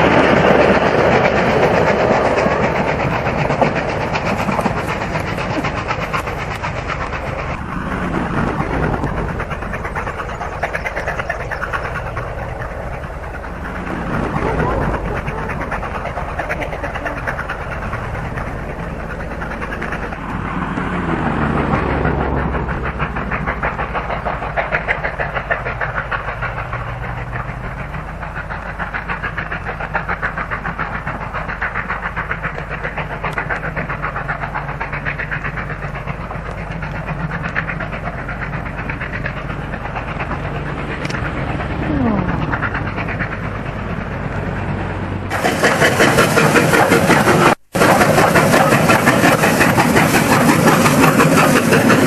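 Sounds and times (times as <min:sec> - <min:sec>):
train rhythmic clatter: 0:00.0 - 0:52.0.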